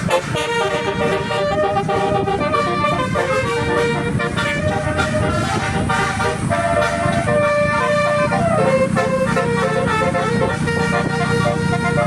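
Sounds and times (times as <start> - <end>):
multi-tone bus horn tune: 0.0 - 12.0.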